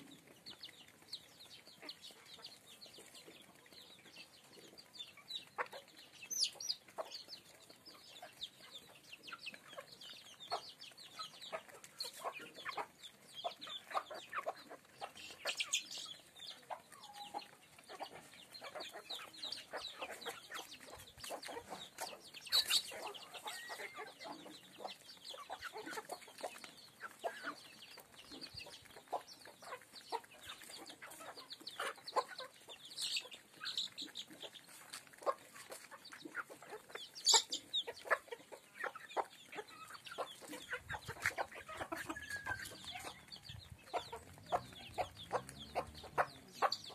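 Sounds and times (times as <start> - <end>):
chickens clucking: 0.0 - 46.9.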